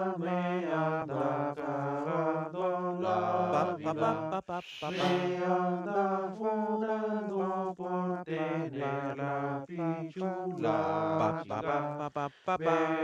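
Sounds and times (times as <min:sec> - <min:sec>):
man singing a cappella harmonies: 0:00.0 - 0:13.0.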